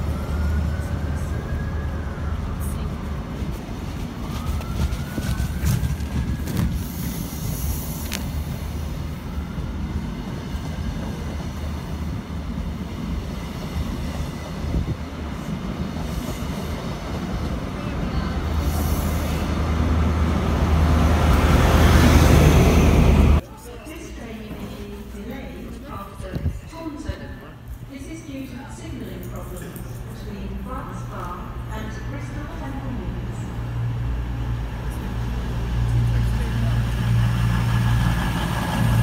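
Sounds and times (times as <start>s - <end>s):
train coaches rumbling past: 0.0s - 39.0s.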